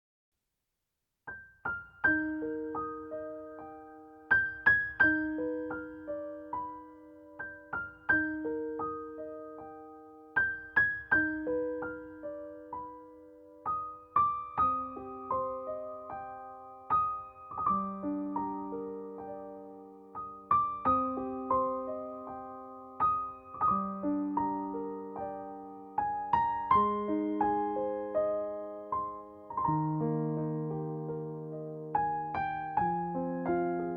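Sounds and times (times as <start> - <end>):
gentle piano melody: 1.3 - 33.9.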